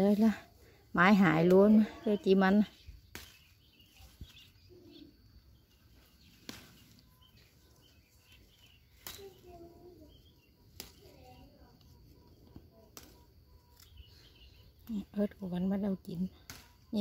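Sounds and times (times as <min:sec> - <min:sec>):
faint bird chirps: 0:00.3 - 0:17.0.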